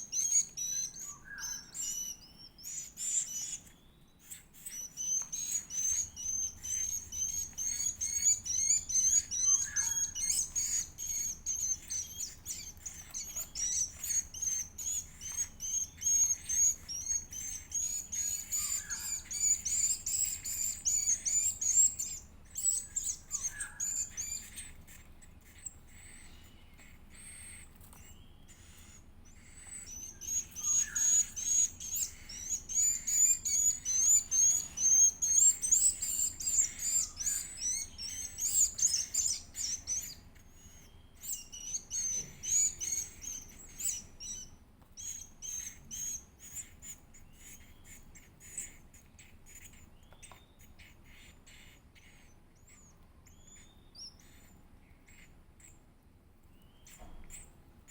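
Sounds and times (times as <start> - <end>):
bird chick cheeping: 0.0 - 55.9, 56.5 - 57.9.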